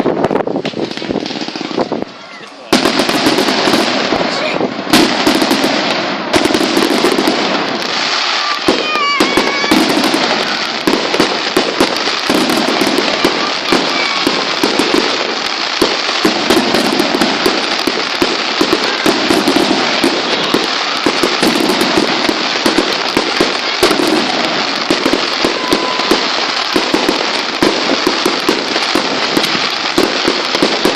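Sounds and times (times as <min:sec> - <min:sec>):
fireworks crackling and banging: 0:00.0 - 0:30.9.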